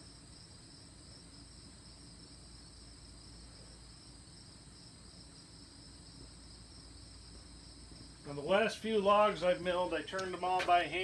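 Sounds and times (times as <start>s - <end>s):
insects chorus drone: 0.0s - 11.0s.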